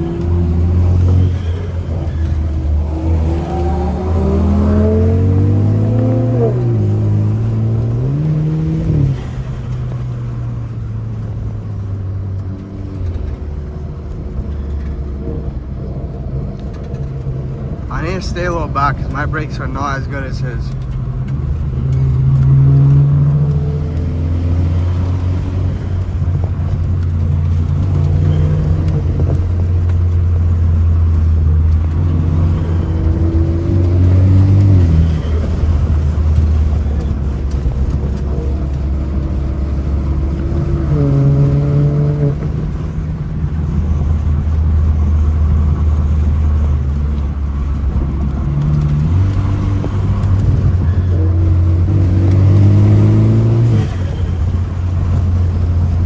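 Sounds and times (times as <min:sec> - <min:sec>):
car engine pulling hard: 0:00.0 - 0:56.0.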